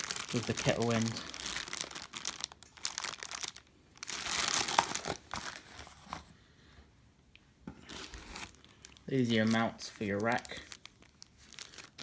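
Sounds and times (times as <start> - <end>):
plastic bag crinkling: 0.0 - 5.7, 7.8 - 12.0.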